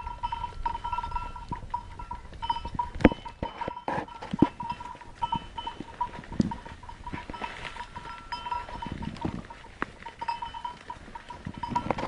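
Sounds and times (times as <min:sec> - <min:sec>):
livestock bells ringing: 0:00.0 - 0:12.0
rustling in dry brush: 0:00.2 - 0:12.0.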